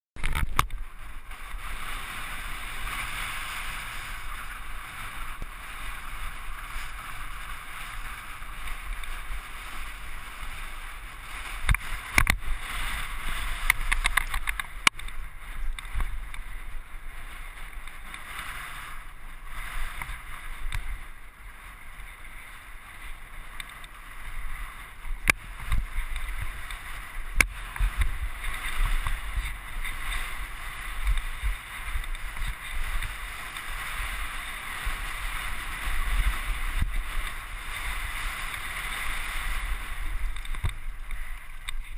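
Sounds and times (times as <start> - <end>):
bike knocking and rattling on stones: 0.2 - 41.9
wind buffeting microphone: 0.2 - 41.9.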